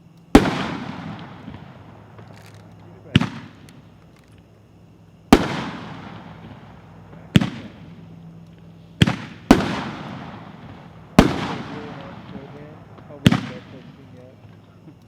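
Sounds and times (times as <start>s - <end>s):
fireworks shells exploding: 0.3s - 15.0s.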